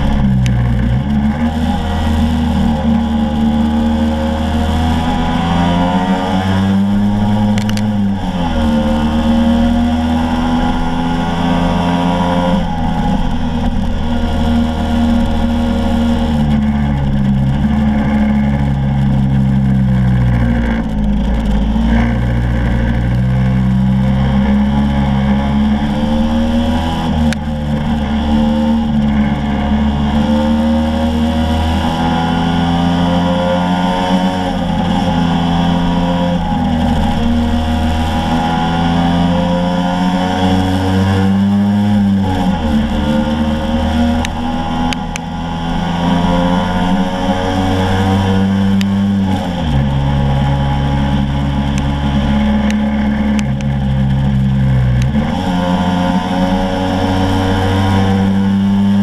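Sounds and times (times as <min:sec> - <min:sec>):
scooter engine revving: 0:00.0 - 0:59.0.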